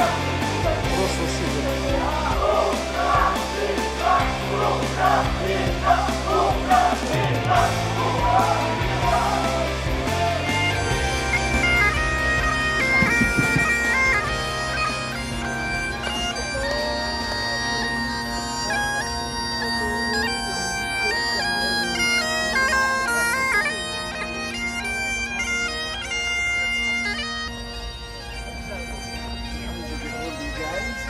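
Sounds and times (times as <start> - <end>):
bagpipe melody with drones: 0.0 - 31.0.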